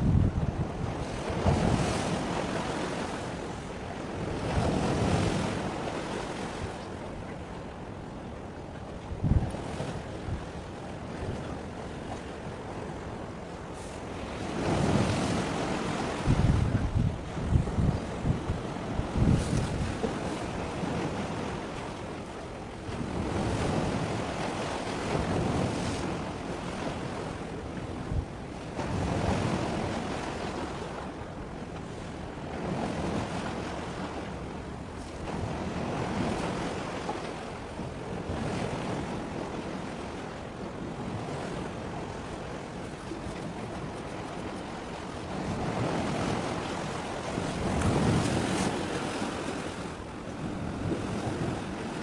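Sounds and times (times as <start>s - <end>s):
sea waves washing in: 0.0s - 52.0s
wind noise on microphone: 0.0s - 52.0s.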